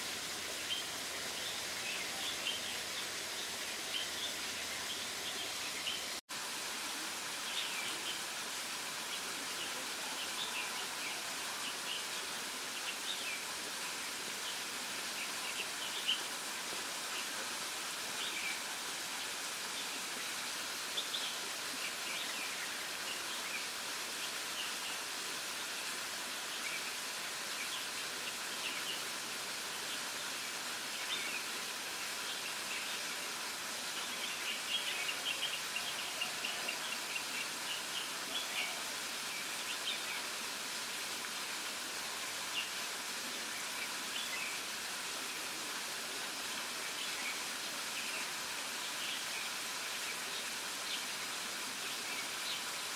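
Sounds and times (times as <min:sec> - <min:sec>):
steady outdoor hiss: 0:00.0 - 0:52.9.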